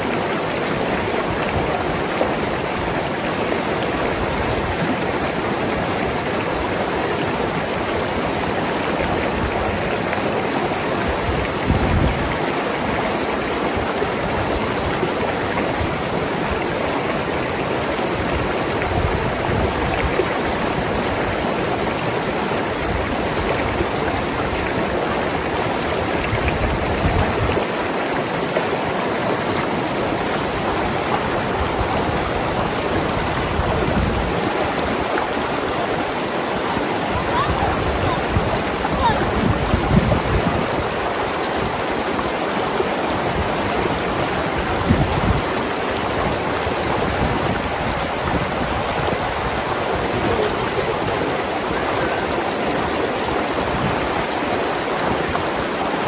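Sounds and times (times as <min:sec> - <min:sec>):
low water surges: 0:00.0 - 0:56.0
river rushing over rocks: 0:00.0 - 0:56.0.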